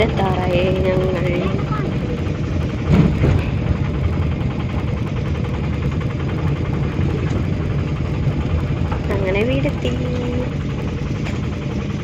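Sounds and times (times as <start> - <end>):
engine and road noise in cabin: 0.0 - 12.0.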